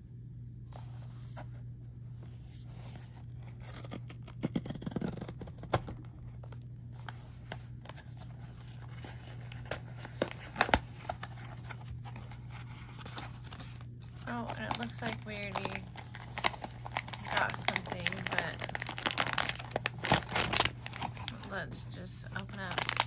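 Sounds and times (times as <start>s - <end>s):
cardboard packaging rustling: 2.3s - 23.0s.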